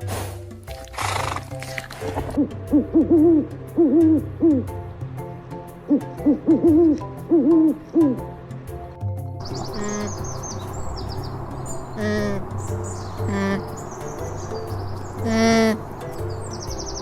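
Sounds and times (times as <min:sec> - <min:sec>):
background music: 0:00.0 - 0:17.0
bird low calls: 0:01.0 - 0:04.7, 0:05.9 - 0:08.3, 0:09.4 - 0:17.0.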